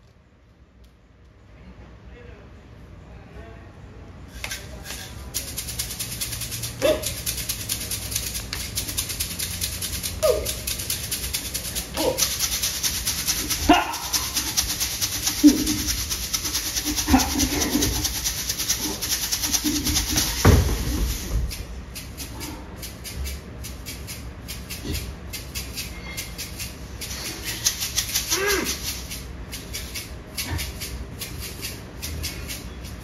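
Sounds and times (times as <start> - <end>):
high clicking: 4.4 - 33.0
rapid rattling drum beat: 5.3 - 33.0.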